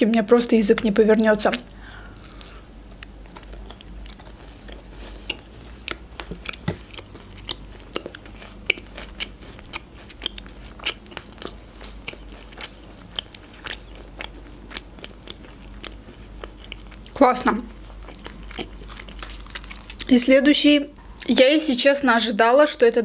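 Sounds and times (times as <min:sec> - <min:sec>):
person chewing crunchy bar: 0:01.5 - 0:20.1.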